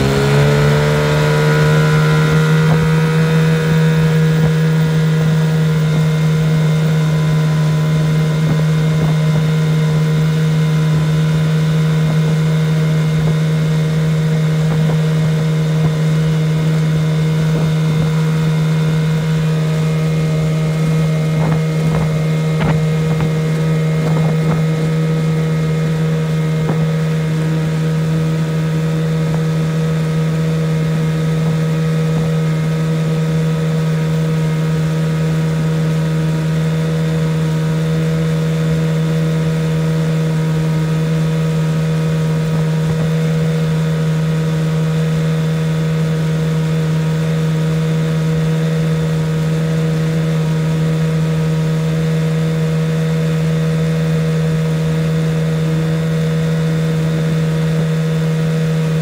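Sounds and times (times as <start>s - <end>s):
outboard motor droning: 0.0s - 59.0s.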